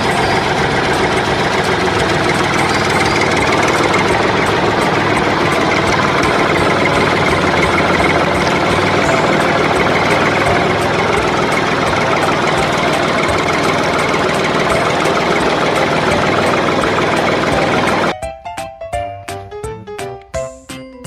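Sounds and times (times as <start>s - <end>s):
engine idling: 0.0s - 18.1s
faint even ticking: 0.0s - 18.1s.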